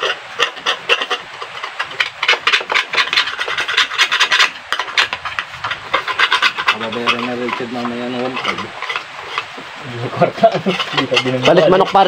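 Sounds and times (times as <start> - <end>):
file rasping against chain: 0.0 - 12.0.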